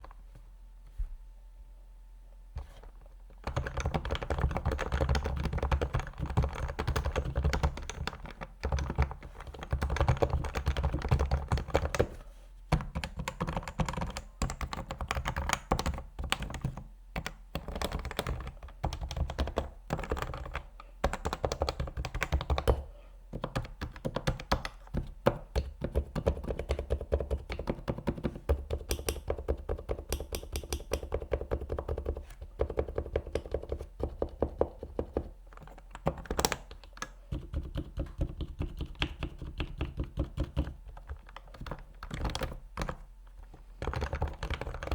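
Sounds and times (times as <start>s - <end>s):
fast typing on keyboard: 3.4s - 12.1s, 12.7s - 43.1s, 43.7s - 44.9s.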